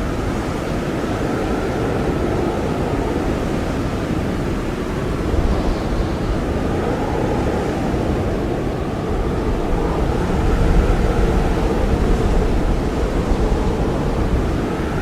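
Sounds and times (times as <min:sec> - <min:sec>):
blizzard wind rushing: 0:00.0 - 0:15.0
faint wind whistle: 0:00.0 - 0:15.0.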